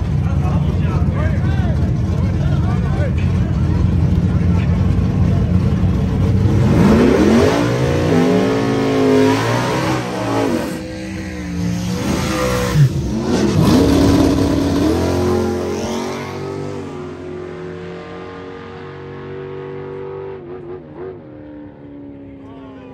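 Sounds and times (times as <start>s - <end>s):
truck engine revving: 0.0s - 21.8s.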